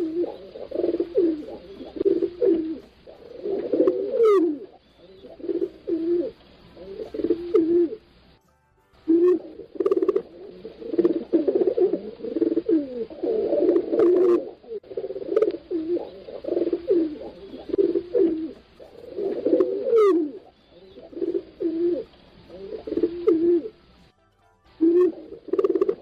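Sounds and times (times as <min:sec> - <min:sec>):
pigeons cooing: 0:00.0 - 0:08.2, 0:09.1 - 0:24.1, 0:24.8 - 0:26.0.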